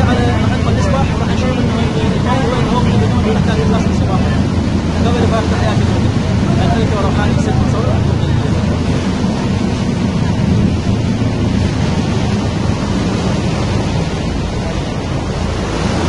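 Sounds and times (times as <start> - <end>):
boat wake churning: 0.0 - 16.0
deep low rumble: 0.0 - 16.0
wind buffeting microphone: 0.0 - 16.0.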